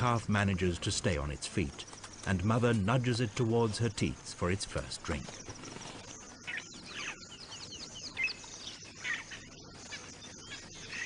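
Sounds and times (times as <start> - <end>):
birds chirping: 0.0 - 11.0
outdoor ambience hiss: 0.0 - 11.0.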